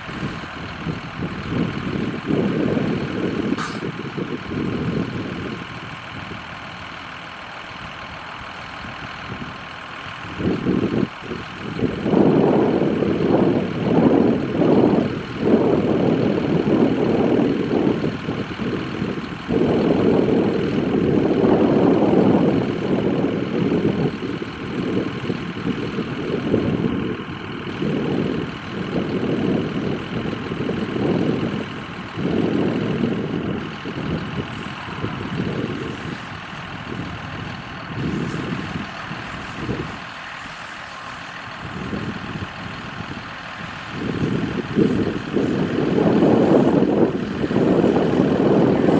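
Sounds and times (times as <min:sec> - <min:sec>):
baler machinery rumble: 0:00.0 - 0:48.9
tractor engine under load: 0:00.0 - 0:48.9.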